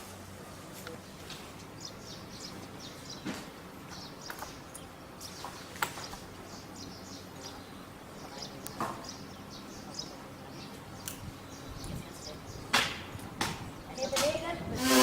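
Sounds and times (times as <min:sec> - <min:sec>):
birds chirping: 0:00.9 - 0:15.0.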